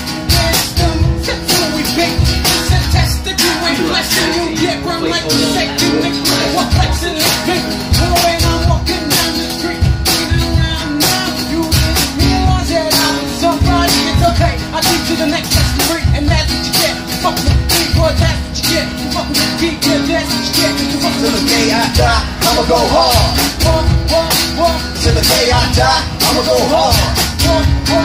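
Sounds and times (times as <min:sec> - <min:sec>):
man singing: 0:00.0 - 0:28.0
music with pulsing bass: 0:00.0 - 0:28.0.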